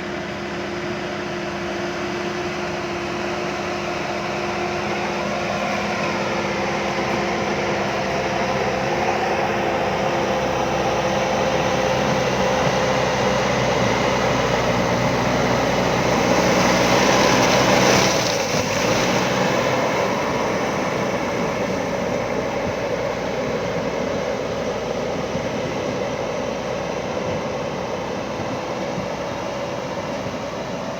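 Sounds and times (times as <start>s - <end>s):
diesel engine under load: 0.0s - 30.9s.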